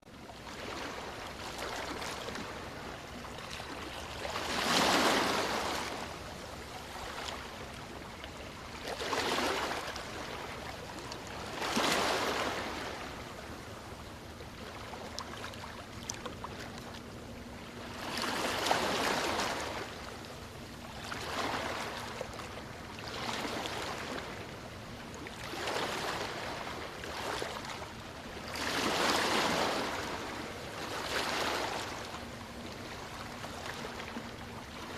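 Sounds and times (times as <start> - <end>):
waves breaking on shore: 0.3 - 34.9.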